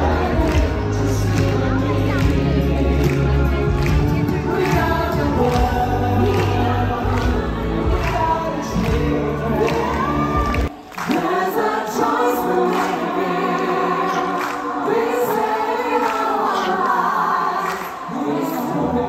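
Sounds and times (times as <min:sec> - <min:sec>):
music with singing voices: 0:00.0 - 0:19.0.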